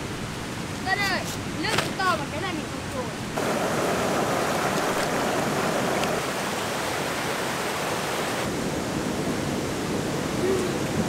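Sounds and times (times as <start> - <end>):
stream flowing over pebbles: 0.0 - 11.0.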